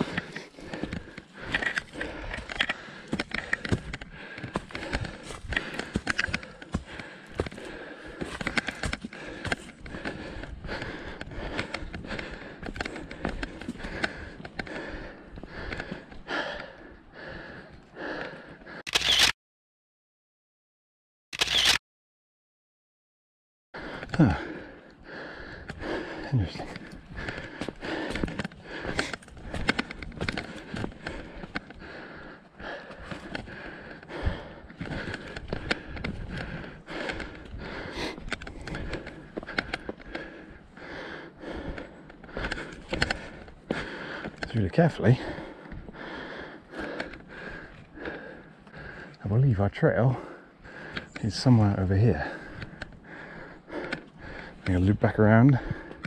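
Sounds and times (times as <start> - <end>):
person breathing hard: 0.0 - 19.2, 23.8 - 56.0
footsteps on trail: 0.0 - 19.3, 23.8 - 56.0.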